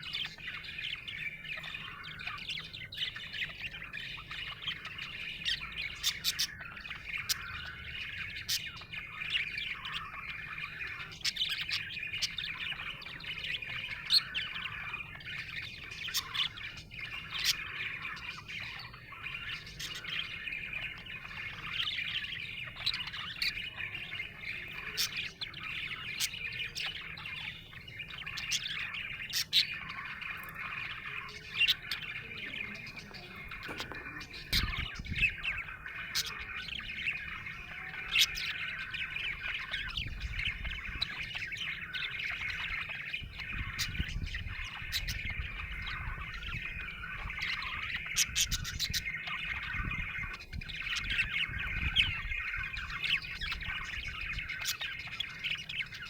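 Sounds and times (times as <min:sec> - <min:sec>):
budgerigar squawk: 0:00.0 - 0:56.0
budgerigars chattering and warbling: 0:00.0 - 0:56.0.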